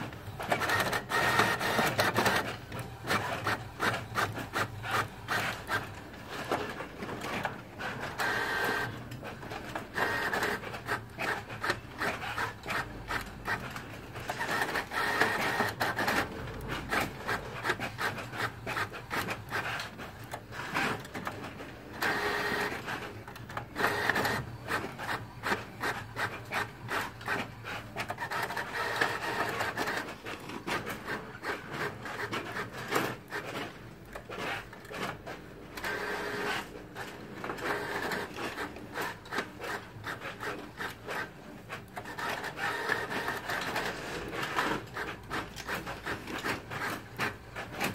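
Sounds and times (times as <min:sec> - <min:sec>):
inkjet printer whirring and clicking: 0:00.0 - 0:47.9.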